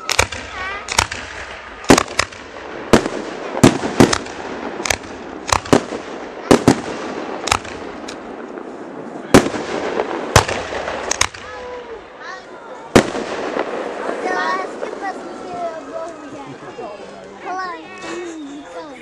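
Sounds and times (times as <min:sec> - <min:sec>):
fireworks bangs: 0:00.0 - 0:16.7.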